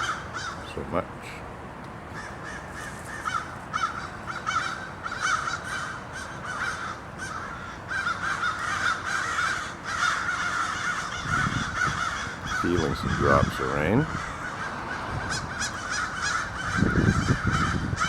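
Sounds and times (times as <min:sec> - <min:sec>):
crows cawing: 0:00.0 - 0:00.7, 0:02.1 - 0:18.0.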